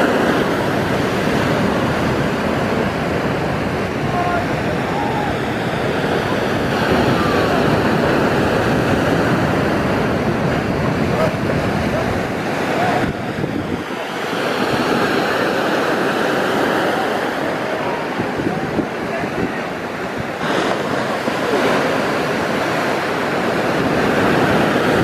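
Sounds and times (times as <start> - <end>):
surf breaking and washing: 0.0 - 25.0
wind buffeting microphone: 0.0 - 25.0.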